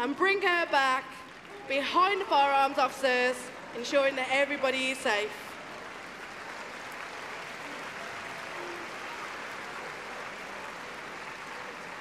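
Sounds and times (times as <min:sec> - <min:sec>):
large audience applauding: 0:01.2 - 0:12.0.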